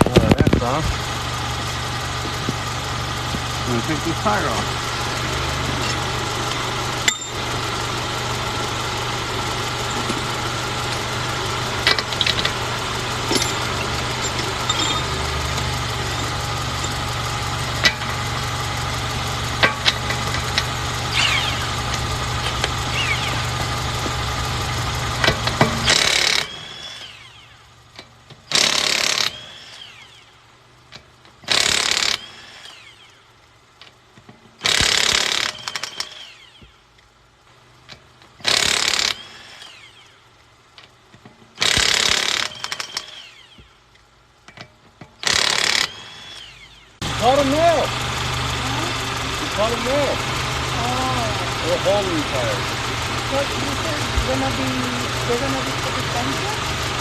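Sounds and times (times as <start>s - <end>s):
impact wrench bursts: 0.0s - 36.9s, 37.9s - 57.0s
vehicle engine idling: 0.0s - 57.0s.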